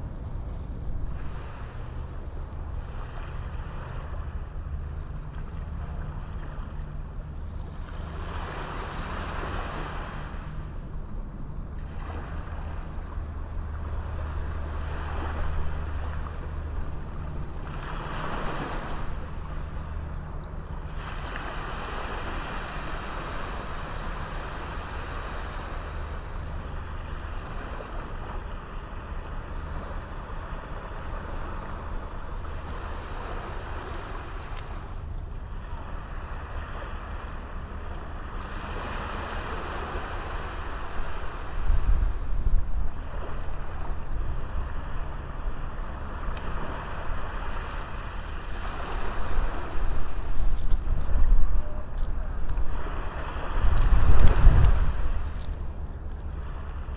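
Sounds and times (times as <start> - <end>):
sea waves breaking on beach: 0.0 - 56.9.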